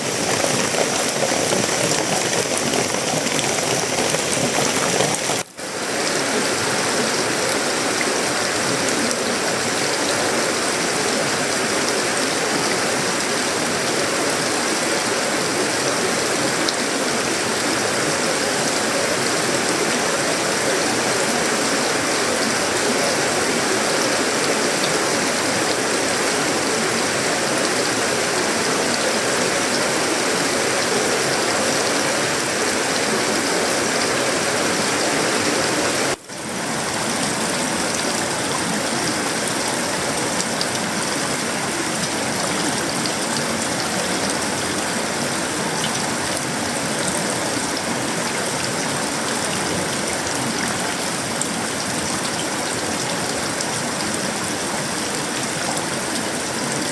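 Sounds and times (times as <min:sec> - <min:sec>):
heavy rain on metal roof: 0:00.0 - 0:56.9.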